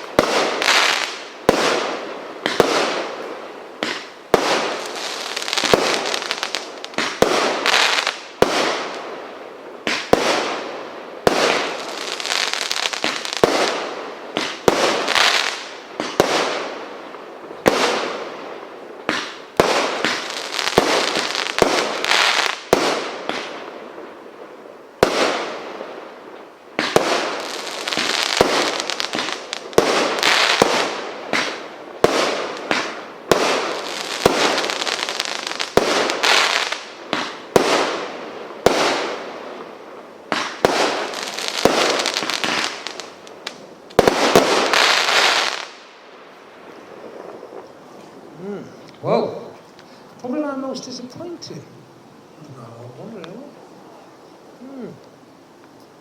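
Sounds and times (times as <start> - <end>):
fireworks bangs: 0.0 - 49.6
fireworks crackling hiss: 0.0 - 56.0.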